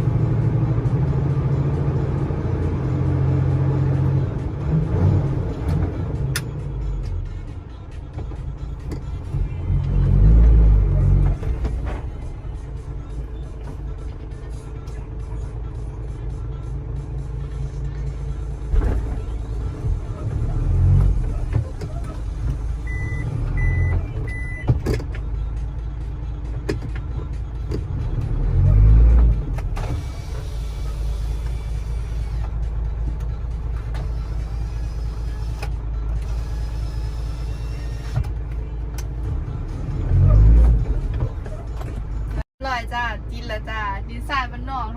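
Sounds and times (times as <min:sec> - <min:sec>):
truck engine rumbling: 0:00.0 - 0:44.9.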